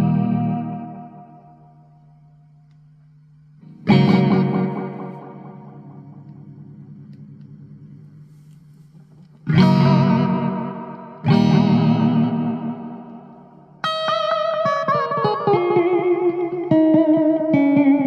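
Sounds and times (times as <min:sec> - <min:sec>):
electric guitar chords with delay: 0:00.0 - 0:01.8, 0:03.6 - 0:08.0, 0:09.4 - 0:18.0.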